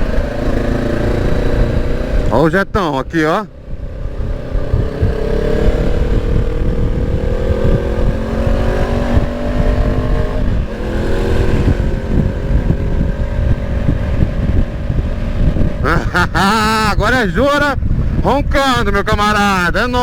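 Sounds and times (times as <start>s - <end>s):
motorcycle engine revving: 0.0s - 18.3s
wind noise on microphone: 0.0s - 20.0s.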